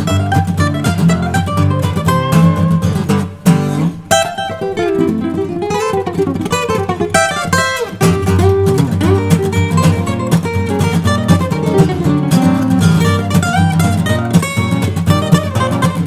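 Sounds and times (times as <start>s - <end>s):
acoustic guitars fingerstyle duet: 0.0s - 16.0s
strummed guitar accents: 0.0s - 16.0s.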